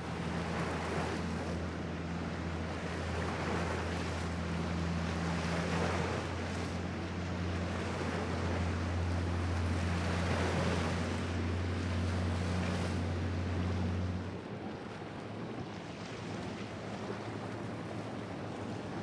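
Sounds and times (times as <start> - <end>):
powerboat engines droning: 0.0 - 19.0
waves washing: 0.0 - 19.0.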